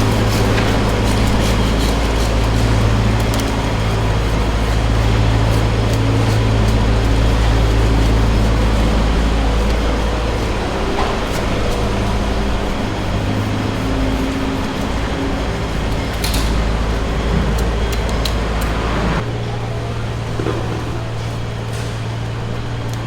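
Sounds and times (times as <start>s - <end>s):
dense background noise: 0.0s - 23.0s
low mechanical hum: 0.0s - 23.0s.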